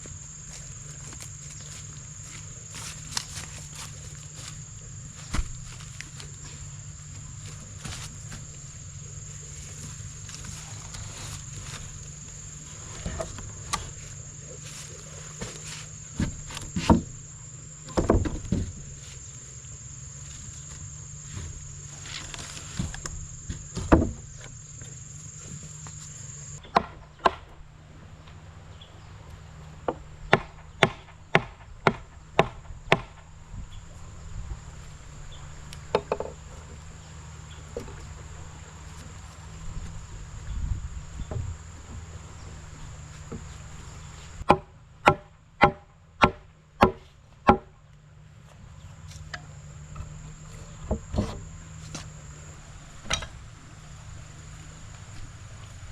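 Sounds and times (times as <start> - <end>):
high insect drone: 0.0 - 55.9.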